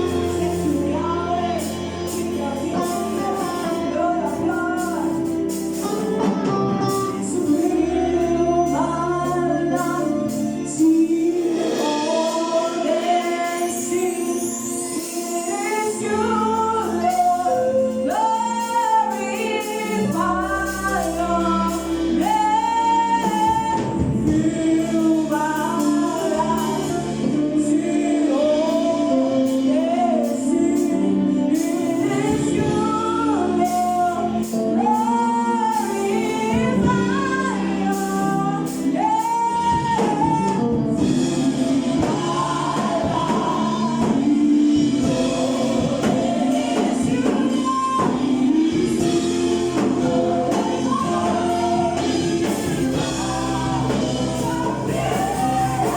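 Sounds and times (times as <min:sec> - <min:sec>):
held bass notes: 0:00.0 - 0:14.0, 0:15.6 - 0:55.9
choir singing gospel song: 0:00.0 - 0:55.9.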